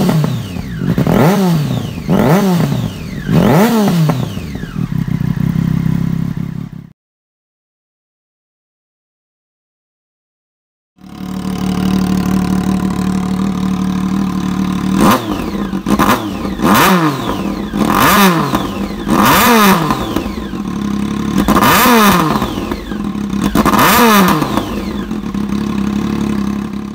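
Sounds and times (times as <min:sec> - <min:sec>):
motorcycle engine idling and revving: 0:00.0 - 0:07.0, 0:11.0 - 0:26.9.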